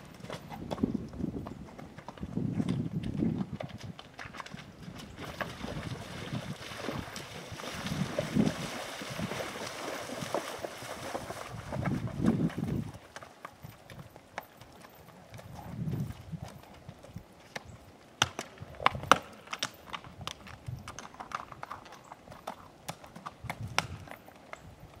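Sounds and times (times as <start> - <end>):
horse hooves clacking on rock: 0.0 - 25.0.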